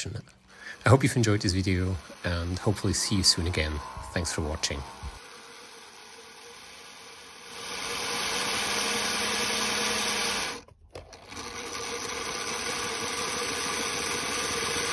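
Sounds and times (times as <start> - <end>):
model train motor whirring: 0.0 - 14.9.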